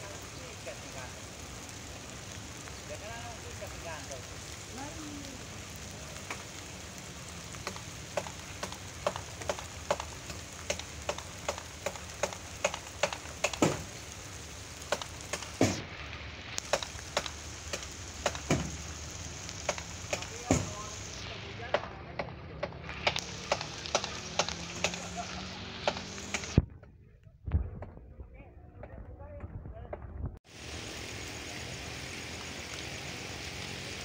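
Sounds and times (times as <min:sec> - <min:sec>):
light rain hiss: 0:00.0 - 0:26.6, 0:30.4 - 0:34.0
raindrops ticking: 0:00.0 - 0:27.2.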